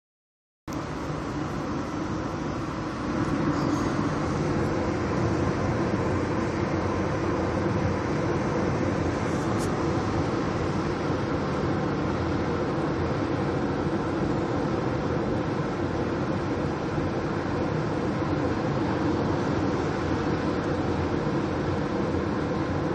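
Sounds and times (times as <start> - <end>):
road and engine noise in car: 0.7 - 22.9.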